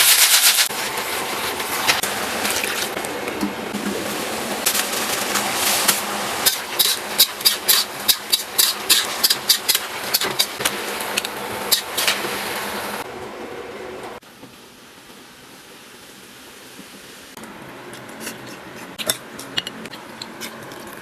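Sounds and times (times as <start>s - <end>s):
wok sizzling: 0.0s - 21.0s.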